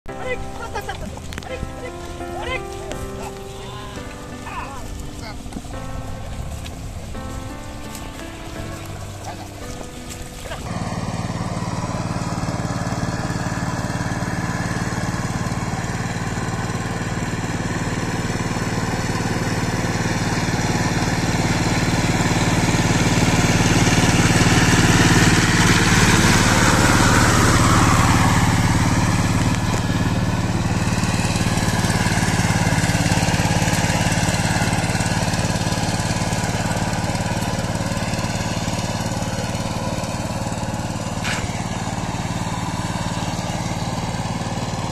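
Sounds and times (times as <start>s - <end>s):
diesel engine running under load: 0.0s - 44.9s
rotavator churning through mud: 4.0s - 44.9s.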